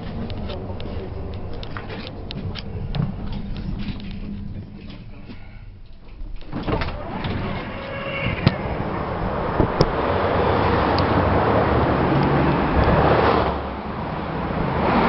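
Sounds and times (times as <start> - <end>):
tram running noise: 0.0 - 15.0.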